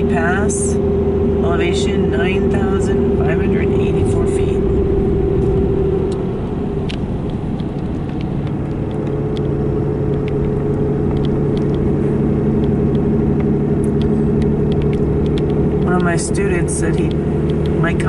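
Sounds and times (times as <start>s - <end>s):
engine hum and road noise: 0.0s - 18.0s
low engine tone: 0.0s - 18.0s.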